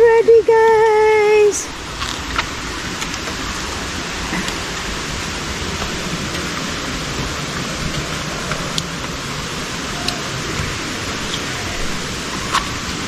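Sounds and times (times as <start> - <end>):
waterfall rushing: 1.0 - 13.0.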